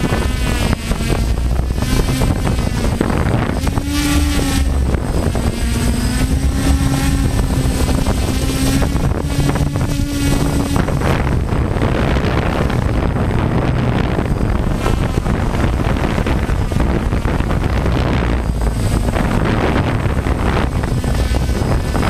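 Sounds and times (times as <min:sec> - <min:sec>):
drone propellers droning: 0:00.0 - 0:22.0
wind rush on microphone: 0:00.0 - 0:22.0.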